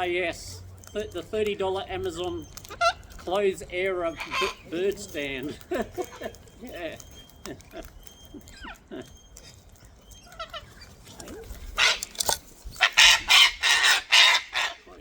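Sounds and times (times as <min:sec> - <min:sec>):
cockatoo chirps and clicks: 0:00.0 - 0:15.0
cockatoo squawking: 0:00.4 - 0:15.0.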